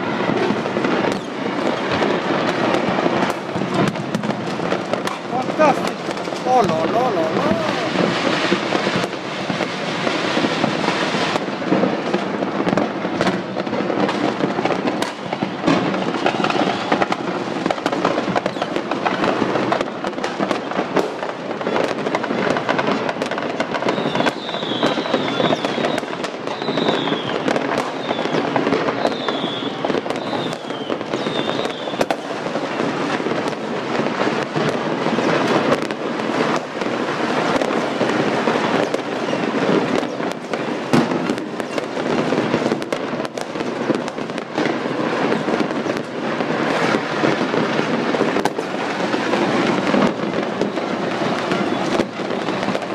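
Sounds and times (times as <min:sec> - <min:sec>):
fireworks bangs and crackles: 0:00.0 - 0:52.9
high whistling fireworks: 0:00.0 - 0:52.9.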